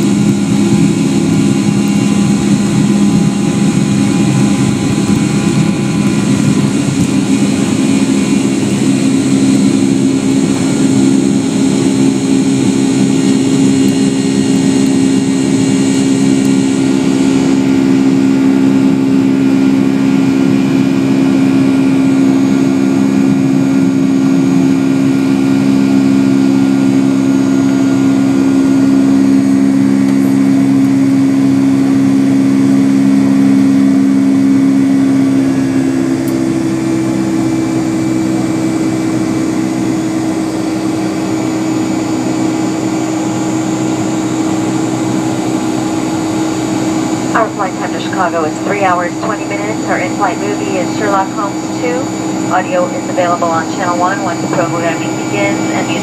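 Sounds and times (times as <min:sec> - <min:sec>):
airplane engine drone: 0:00.0 - 0:56.0.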